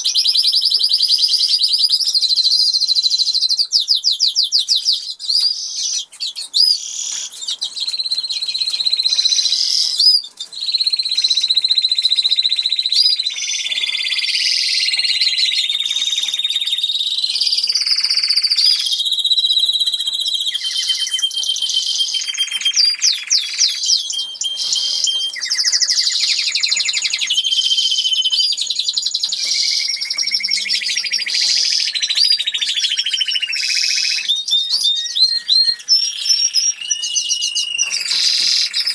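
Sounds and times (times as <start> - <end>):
canary singing trills and whistles: 0.0 - 38.9.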